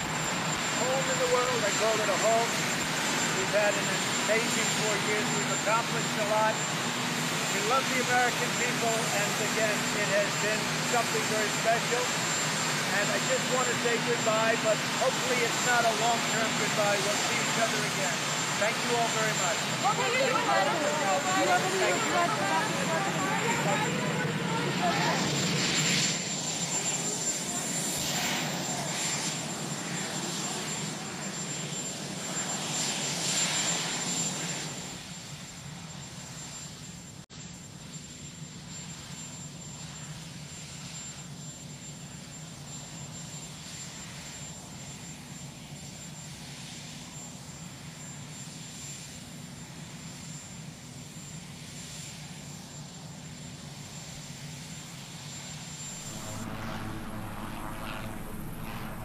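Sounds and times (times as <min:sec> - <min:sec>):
helicopter engines droning and whining: 0:00.0 - 0:59.0.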